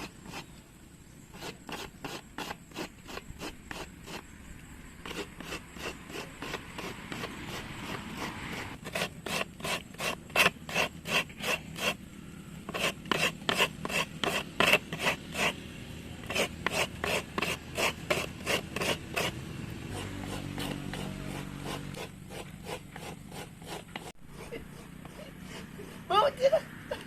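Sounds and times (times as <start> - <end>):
rapid rasping scrape strokes: 0.0 - 0.5, 1.3 - 4.3, 5.0 - 12.0, 12.6 - 27.0.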